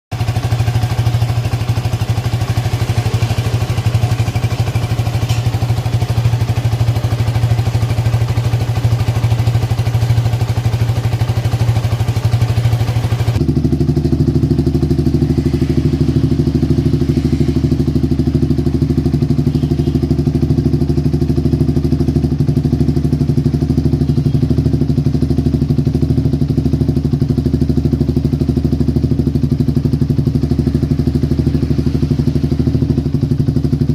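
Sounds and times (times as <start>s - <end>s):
motorcycle engine running steadily: 0.1s - 33.9s.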